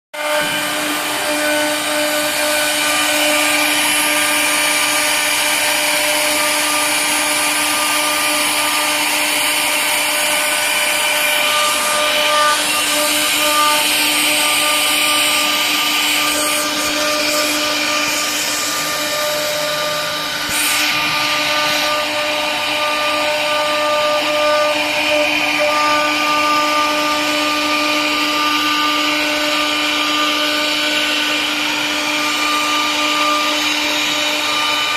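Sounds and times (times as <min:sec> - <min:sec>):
router spindles whining: 0:00.2 - 0:34.9.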